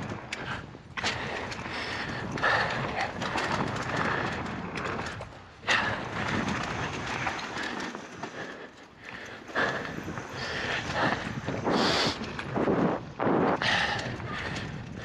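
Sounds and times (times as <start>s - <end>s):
wind on microphone: 0.0s - 8.4s, 9.5s - 15.0s
bike rattling and clicking: 0.0s - 15.0s
bike tyres rolling on dirt: 0.0s - 15.0s.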